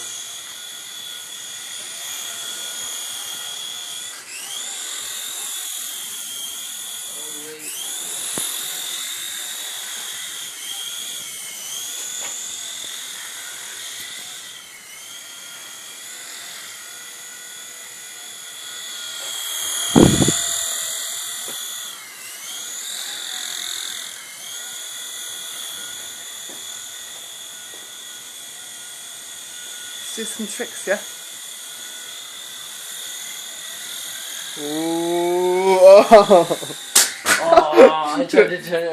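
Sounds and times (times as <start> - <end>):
toy helicopter rotor whine: 0.0 - 38.9.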